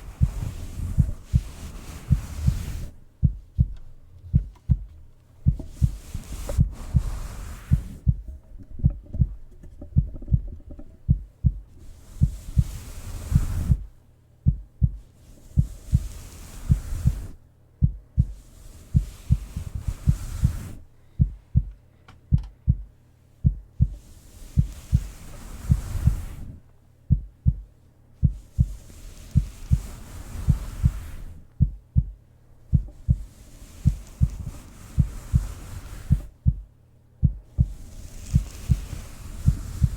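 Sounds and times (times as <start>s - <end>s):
heartbeat thumps: 0.0s - 18.4s, 19.0s - 26.3s, 27.1s - 28.8s, 29.4s - 39.9s.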